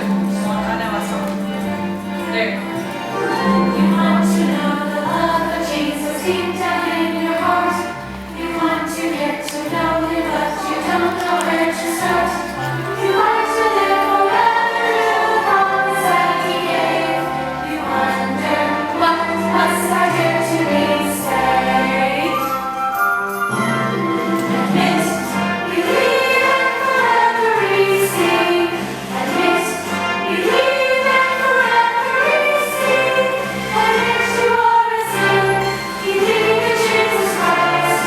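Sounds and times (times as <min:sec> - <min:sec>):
instrumental accompaniment: 0:00.0 - 0:38.0
group of voices singing: 0:03.1 - 0:38.0.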